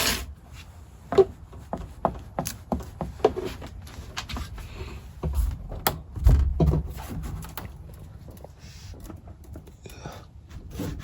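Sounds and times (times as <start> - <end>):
knocks and scrapes against wood: 0.0 - 11.0.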